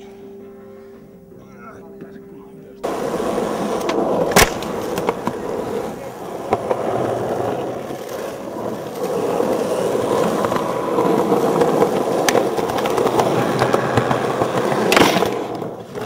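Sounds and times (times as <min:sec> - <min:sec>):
skateboard clack: 0:02.8 - 0:16.0
skateboard wheels rolling on asphalt: 0:02.8 - 0:16.0.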